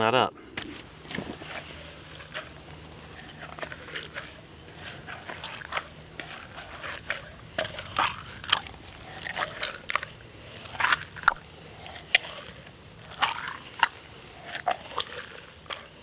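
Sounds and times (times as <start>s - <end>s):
berries crunching and squishing: 0.5s - 16.0s.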